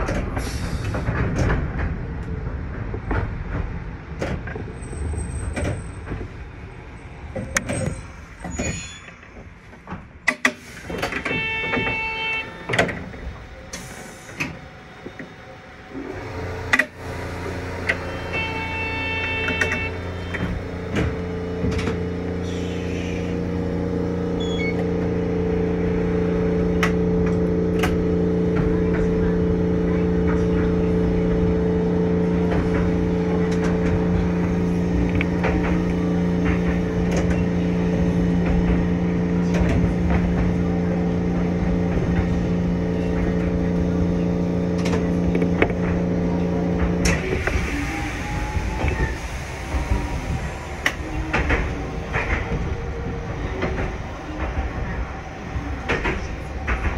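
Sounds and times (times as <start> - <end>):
streetcar electrical hum: 0.0 - 56.9
streetcar running rumble: 0.0 - 56.9
wheels clicking on track: 0.0 - 56.9.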